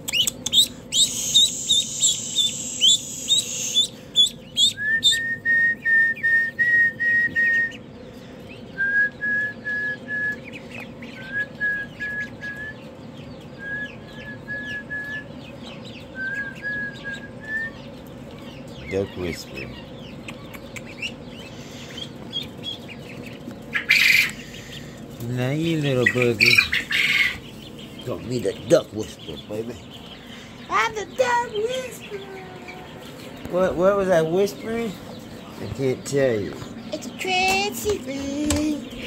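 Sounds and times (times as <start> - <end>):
duckling peeping: 0.0 - 39.0
faint peeping of ducklings: 0.0 - 39.0.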